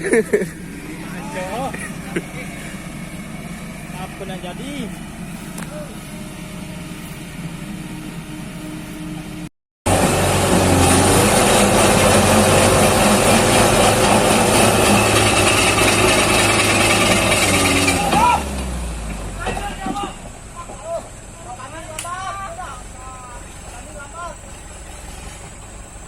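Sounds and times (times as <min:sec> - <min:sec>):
diesel engine working hard: 0:00.0 - 0:26.0
heavy diesel engine running: 0:00.0 - 0:26.0
high engine whine: 0:00.0 - 0:26.0.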